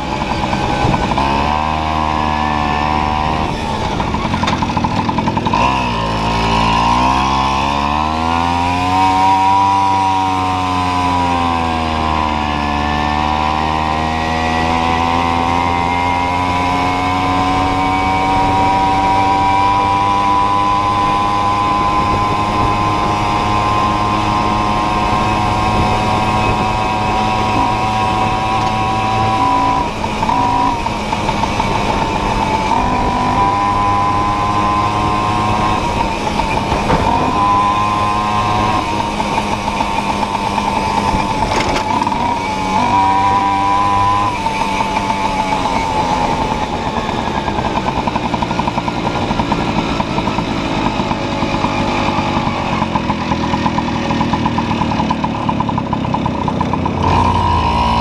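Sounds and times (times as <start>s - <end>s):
two-stroke moped engine: 0.0s - 58.0s.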